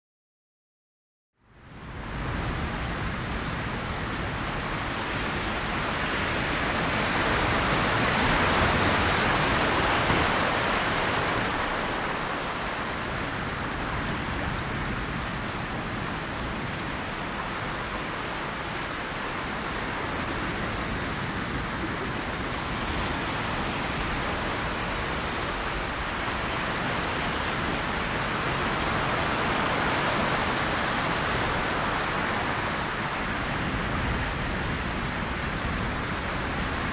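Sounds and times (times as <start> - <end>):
sea waves washing in: 2.0 - 36.9.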